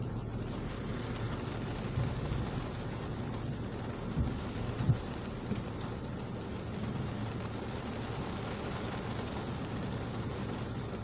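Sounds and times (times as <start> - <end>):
heavy rain on windscreen: 0.0 - 11.0.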